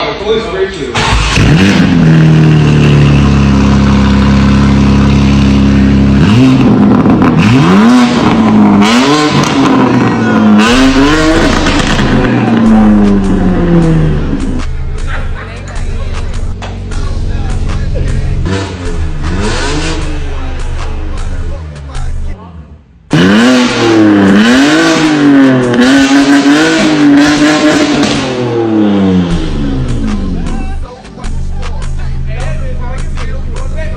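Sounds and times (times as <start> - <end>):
car engine revving: 0.9 - 33.9.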